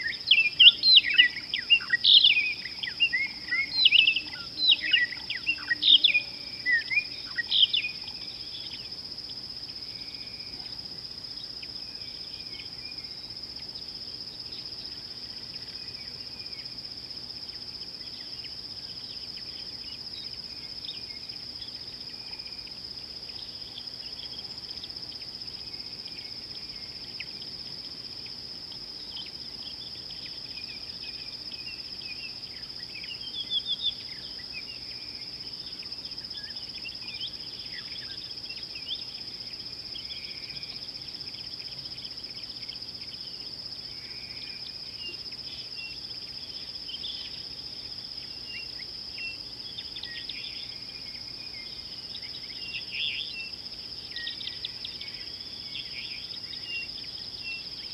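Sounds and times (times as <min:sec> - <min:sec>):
insect trill: 0:00.0 - 0:57.9.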